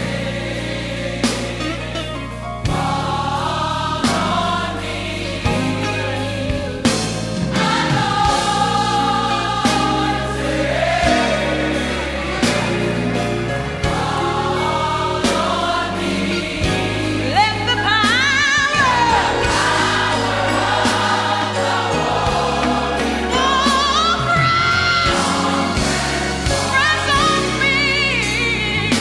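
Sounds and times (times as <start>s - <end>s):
bass line: 0.0s - 29.0s
gospel choir singing: 0.0s - 29.0s.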